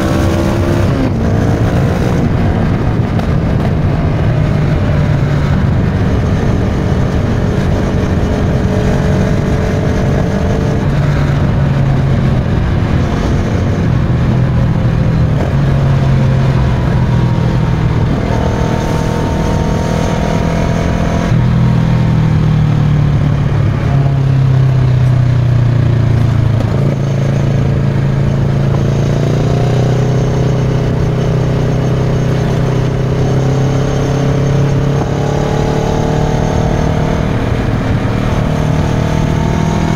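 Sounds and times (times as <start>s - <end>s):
motorcycle engine running: 0.0s - 39.9s
rushing wind noise: 0.0s - 39.9s.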